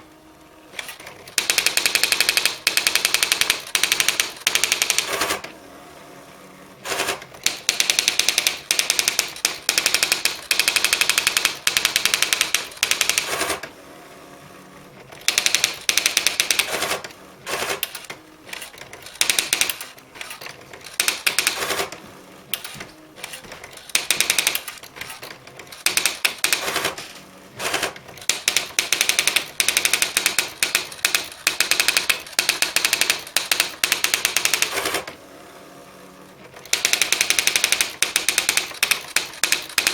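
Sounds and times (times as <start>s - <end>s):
electronic typewriter clattering: 0.8s - 5.5s, 6.8s - 13.7s, 15.1s - 35.2s, 36.5s - 39.9s.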